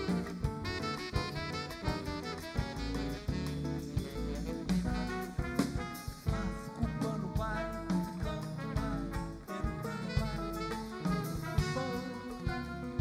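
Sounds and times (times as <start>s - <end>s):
acoustic bass: 0.0s - 13.0s
drum kit: 0.0s - 13.0s
saxophone: 0.0s - 13.0s
trumpet: 0.0s - 13.0s.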